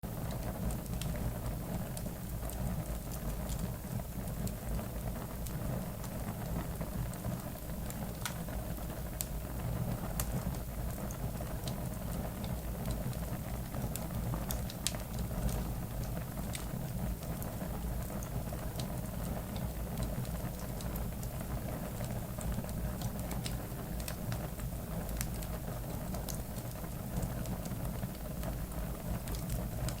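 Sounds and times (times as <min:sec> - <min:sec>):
low fire rumble: 0:00.0 - 0:30.0
campfire crackling and popping: 0:00.2 - 0:30.0.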